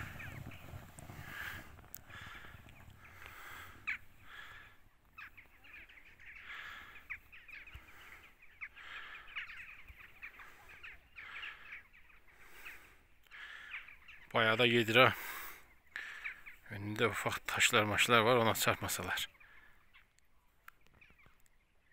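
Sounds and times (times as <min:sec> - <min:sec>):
faint flock of birds calling: 0:00.0 - 0:21.9.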